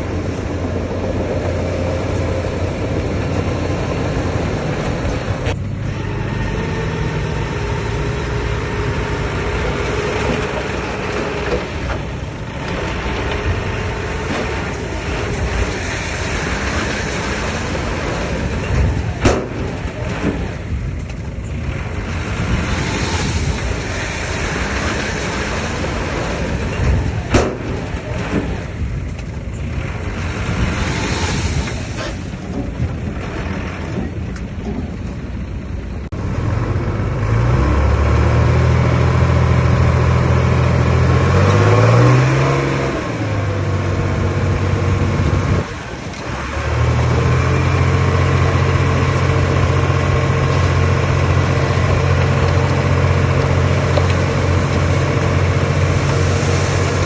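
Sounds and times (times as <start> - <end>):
diesel engine running and revving: 0.0 - 57.0.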